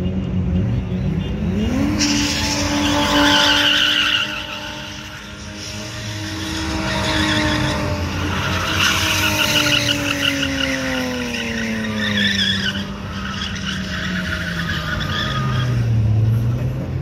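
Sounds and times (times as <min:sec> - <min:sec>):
tires squealing: 0:01.3 - 0:17.0.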